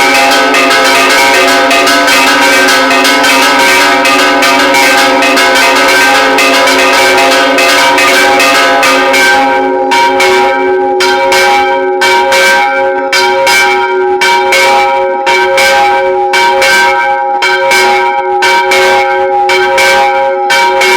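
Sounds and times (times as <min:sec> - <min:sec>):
church bells pealing: 0:00.0 - 0:20.9.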